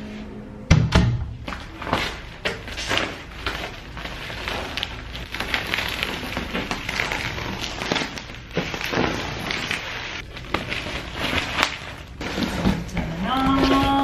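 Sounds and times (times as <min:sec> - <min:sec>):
bubble wrap crinkling and crackling: 0:01.4 - 0:14.0.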